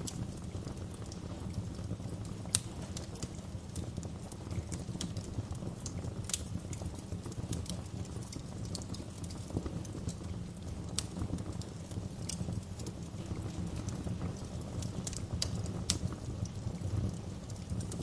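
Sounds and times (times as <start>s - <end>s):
low rumble of burning: 0.0s - 18.0s
wood fire crackling and popping: 0.0s - 18.0s.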